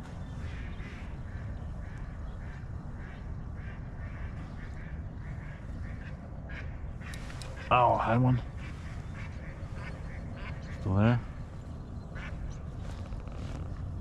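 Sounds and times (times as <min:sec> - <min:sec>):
wind and water rumble: 0:00.0 - 0:14.0
ducks quacking: 0:00.3 - 0:13.0.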